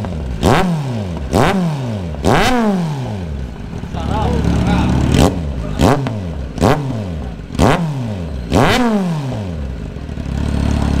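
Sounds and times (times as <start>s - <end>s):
motorcycle engine idling: 0.0s - 11.0s
motorcycle engine revving: 0.0s - 11.0s.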